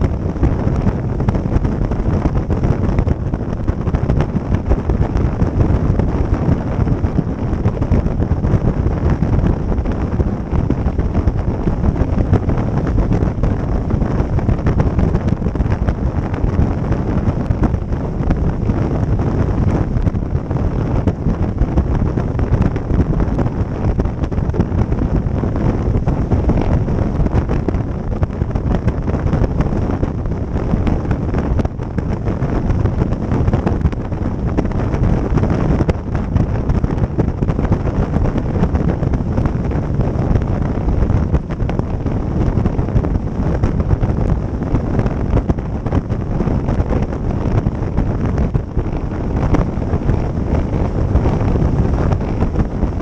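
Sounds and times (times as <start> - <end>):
motorboat motor: 0.0 - 53.0
wind buffeting microphone: 0.0 - 53.0.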